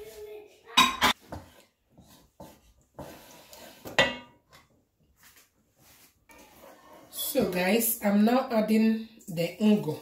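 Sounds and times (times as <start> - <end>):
wooden spoon scraping a pot: 0.0 - 8.4.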